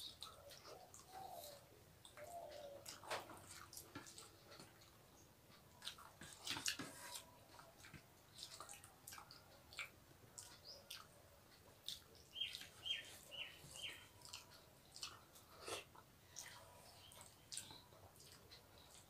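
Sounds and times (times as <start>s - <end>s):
soft chewing: 0.0s - 19.0s.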